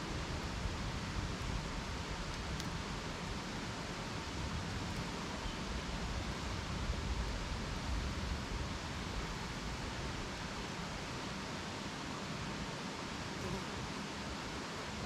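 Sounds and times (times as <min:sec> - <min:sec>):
campfire hissing and rumbling: 0:00.0 - 0:15.0.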